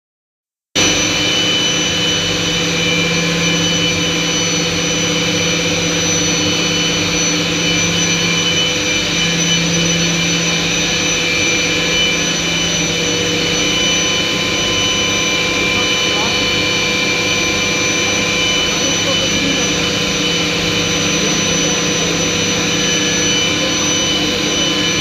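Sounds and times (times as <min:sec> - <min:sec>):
air compressor running: 0:00.8 - 0:25.0.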